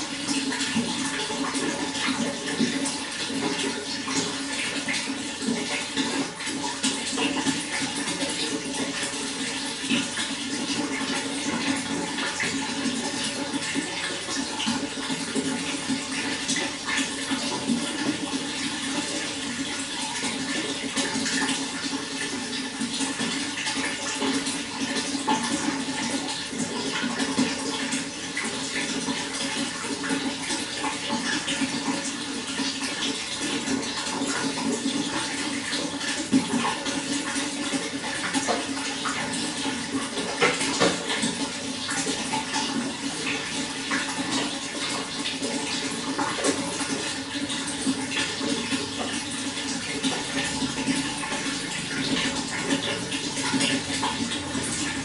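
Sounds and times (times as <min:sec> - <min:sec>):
water flowing and splashing: 0:00.0 - 0:55.0.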